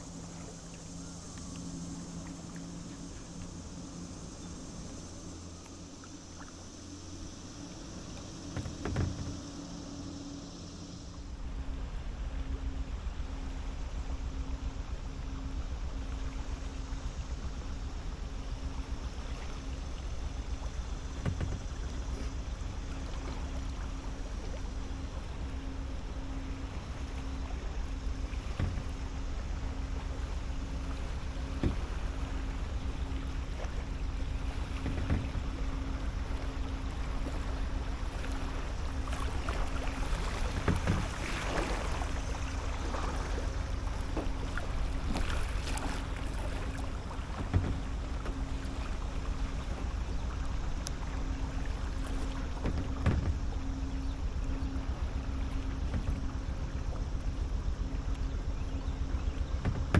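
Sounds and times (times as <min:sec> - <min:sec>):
paddle splashing water: 0:00.0 - 0:59.9
wind rumble on microphone: 0:00.0 - 0:59.9
paddle knocking against kayak: 0:05.6 - 0:09.8, 0:11.2 - 0:59.9.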